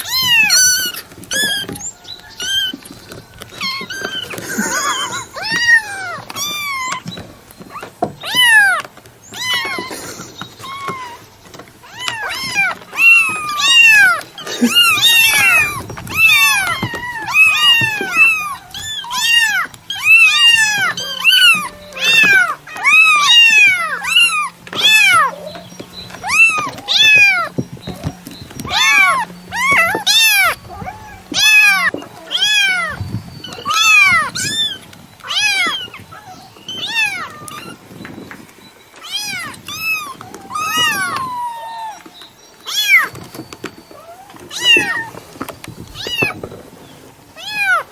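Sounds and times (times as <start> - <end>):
cat meowing: 0.0 - 2.9, 3.5 - 9.9, 11.8 - 25.5, 26.2 - 37.8, 39.0 - 42.1, 42.7 - 43.2, 43.9 - 45.2, 45.9 - 46.5, 47.4 - 47.9.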